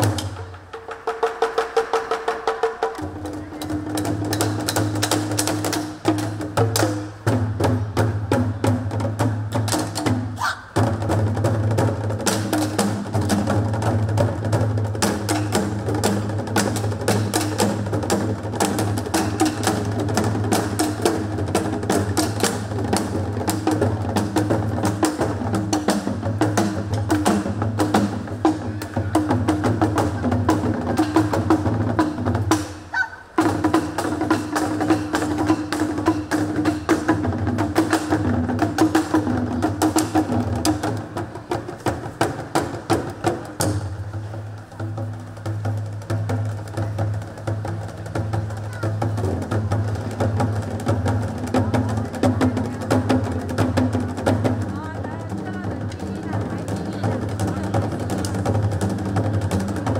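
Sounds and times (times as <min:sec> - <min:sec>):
drums played with sticks: 0:00.0 - 0:59.9.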